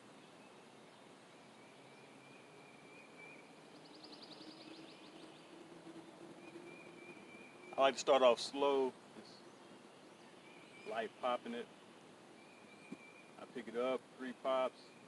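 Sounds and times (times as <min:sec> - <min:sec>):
faint low hum: 0:00.0 - 0:15.0
rapid bird or insect trill: 0:00.0 - 0:15.0.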